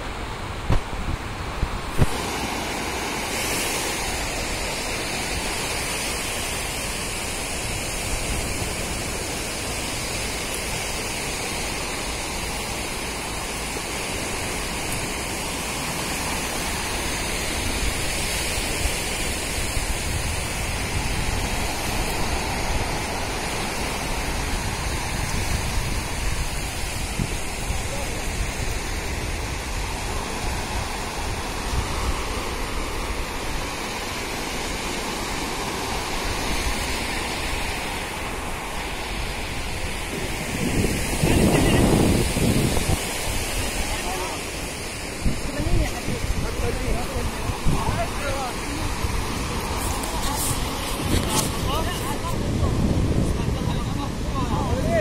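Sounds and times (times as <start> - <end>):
surf washing onto beach: 0.0 - 55.0
wind on microphone: 0.0 - 55.0.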